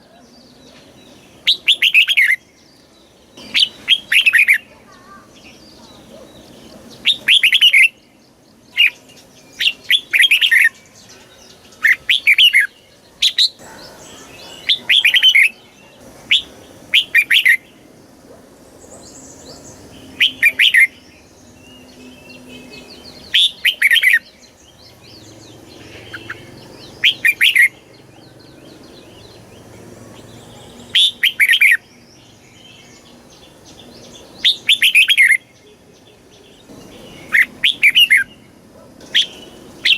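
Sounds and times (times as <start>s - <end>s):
bulbul warbling song: 0.0s - 39.9s.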